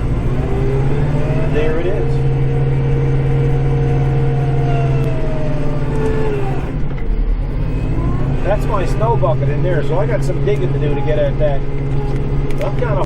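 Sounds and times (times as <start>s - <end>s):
diesel engine low drone: 0.0s - 13.0s
faint engine whine: 0.0s - 13.0s.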